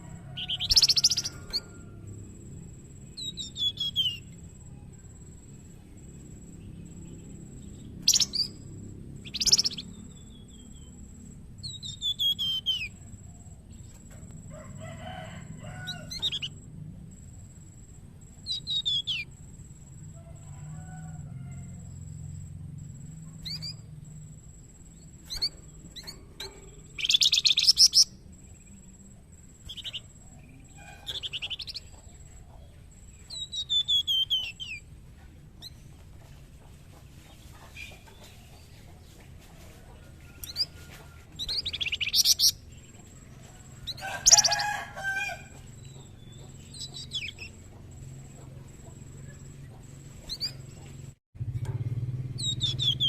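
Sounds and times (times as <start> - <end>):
songbird singing chattering notes: 0.0 - 20.5, 21.8 - 53.0.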